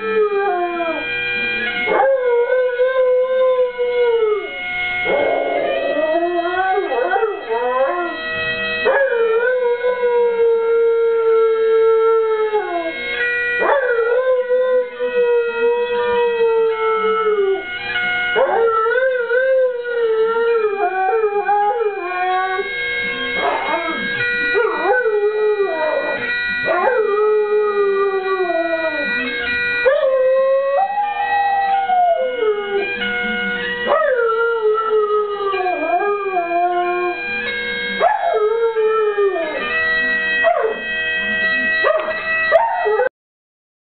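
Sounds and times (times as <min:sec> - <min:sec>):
dog howling: 0:00.0 - 0:13.0, 0:13.6 - 0:37.4, 0:38.0 - 0:43.1
bagpipes playing: 0:00.0 - 0:43.1.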